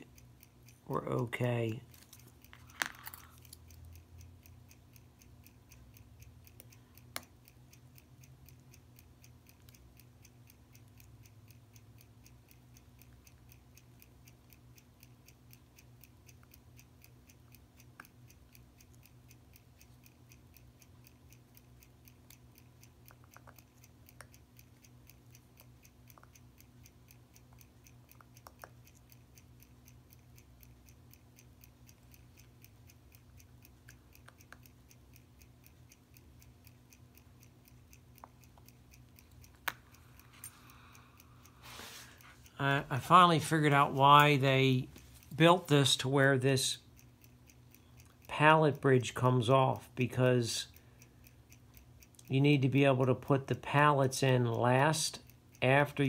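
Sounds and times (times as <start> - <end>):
mechanical timepiece ticking: 0.0 - 56.0.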